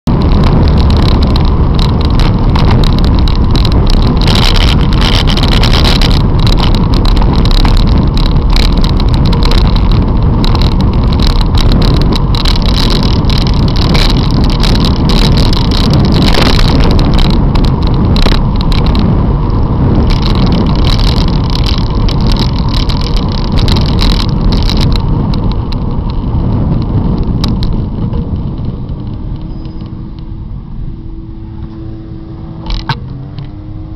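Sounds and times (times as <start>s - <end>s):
wind rushing over microphone: 0.0s - 33.9s.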